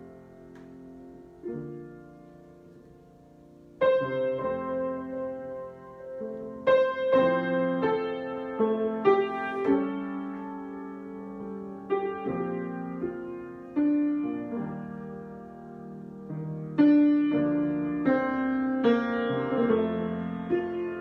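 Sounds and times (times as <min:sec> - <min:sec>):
solo piano notes and chords: 0:00.0 - 0:21.0.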